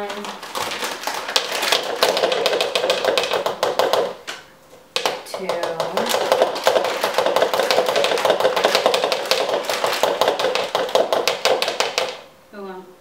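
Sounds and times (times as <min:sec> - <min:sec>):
mesh sieve rattling over bowl: 0:00.0 - 0:04.2, 0:05.0 - 0:12.2.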